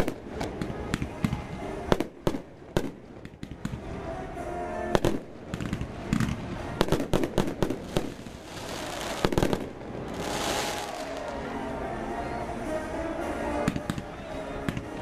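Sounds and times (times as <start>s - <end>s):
fireworks bursting with sharp bangs: 0.0s - 11.5s, 13.5s - 15.0s.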